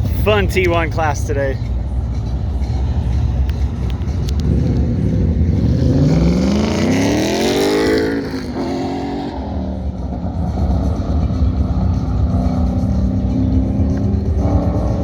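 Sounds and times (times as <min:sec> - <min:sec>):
truck engine accelerating hard: 0:00.0 - 0:15.0.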